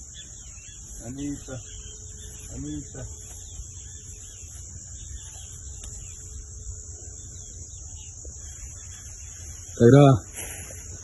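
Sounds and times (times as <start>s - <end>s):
faint chirps: 0.0s - 11.0s
high-pitched hiss: 0.0s - 11.0s.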